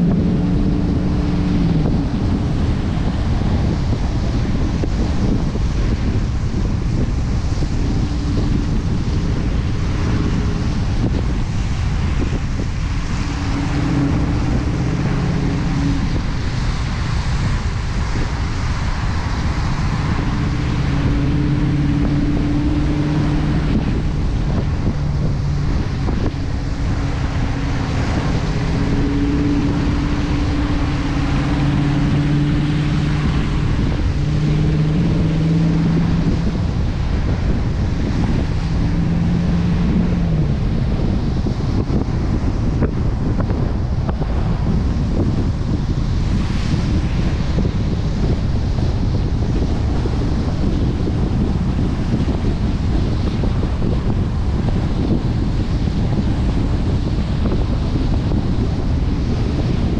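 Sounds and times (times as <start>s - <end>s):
car engine cruising: 0.0s - 59.9s
tyres hissing on wet road: 0.0s - 59.9s
wind noise on microphone: 0.0s - 59.9s.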